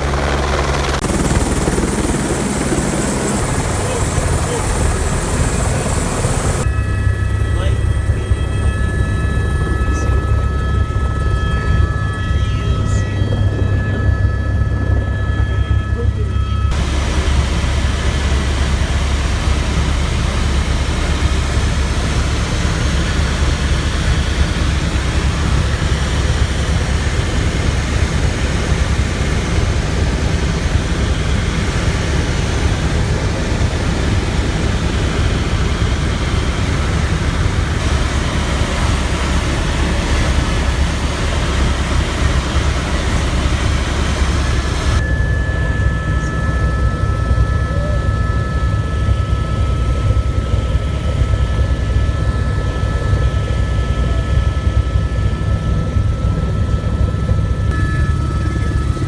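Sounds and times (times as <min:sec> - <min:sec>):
helicopter rotor and engine: 0:00.0 - 0:59.0
thin steady whine: 0:00.0 - 0:59.0.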